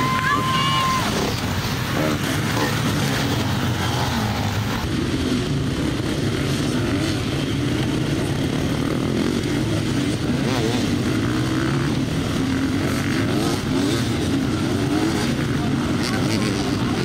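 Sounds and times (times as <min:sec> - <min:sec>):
motorcycles racing at full throttle: 0:00.0 - 0:17.0.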